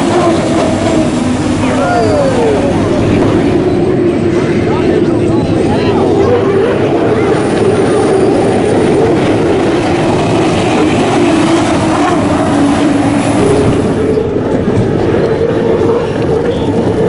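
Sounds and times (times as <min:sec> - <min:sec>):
turbine engine roar: 0:00.0 - 0:17.0.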